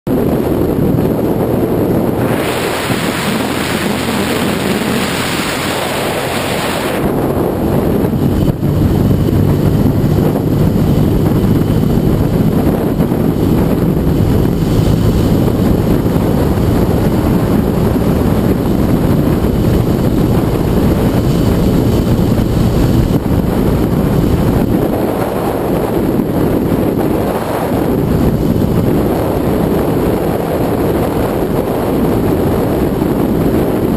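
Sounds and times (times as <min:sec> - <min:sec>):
motorcycle engine running: 0:00.1 - 0:33.9
wind rushing over microphone: 0:00.1 - 0:33.9.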